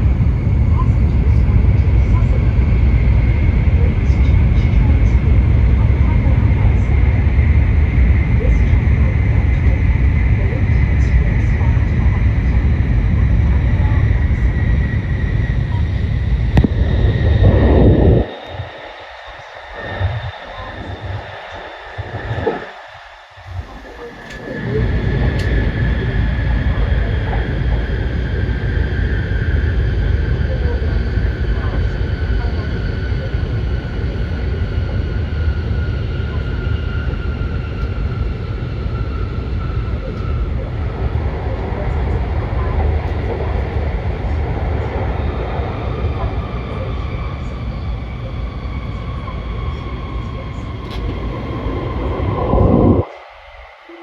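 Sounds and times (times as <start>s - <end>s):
rush of noise: 0.0s - 33.8s, 40.6s - 54.0s
train cabin rumble: 0.0s - 39.2s, 39.8s - 54.0s
faint high whine: 0.0s - 54.0s.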